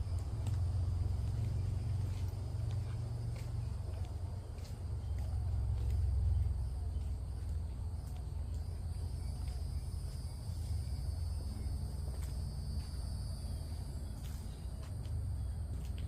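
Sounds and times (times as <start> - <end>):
crickets droning: 0.0 - 16.0.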